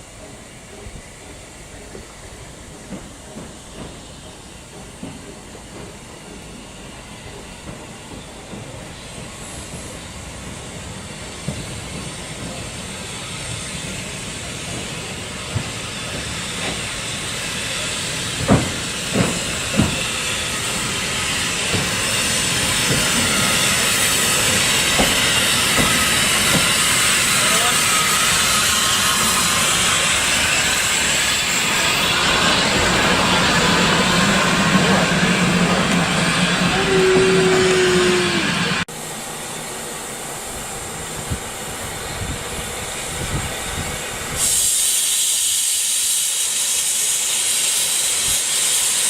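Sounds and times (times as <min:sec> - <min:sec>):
steam locomotive hissing: 0:00.0 - 0:49.0.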